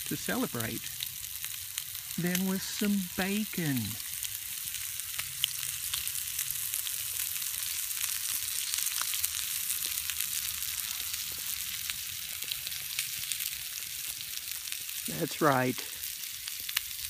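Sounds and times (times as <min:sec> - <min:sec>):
bacon sizzling in a pan: 0:00.0 - 0:17.0.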